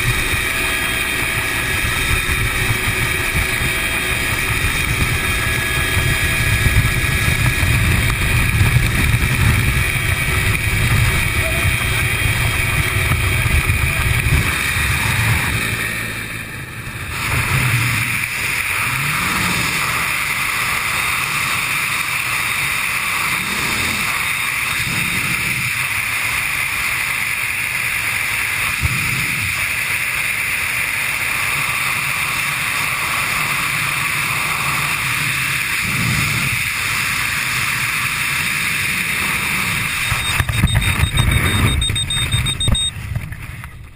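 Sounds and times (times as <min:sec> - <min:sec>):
helicopter running: 0:00.0 - 0:43.9.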